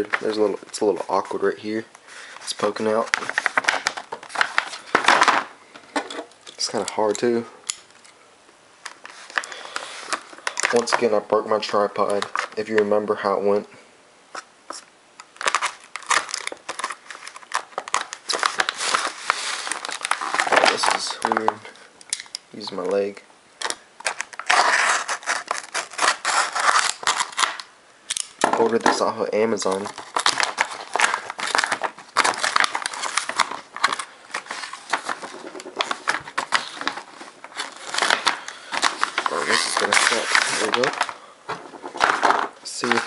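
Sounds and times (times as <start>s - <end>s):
paper and tape crinkling: 0.0s - 7.3s, 8.9s - 12.8s, 15.3s - 21.8s, 23.6s - 27.7s, 28.4s - 43.0s.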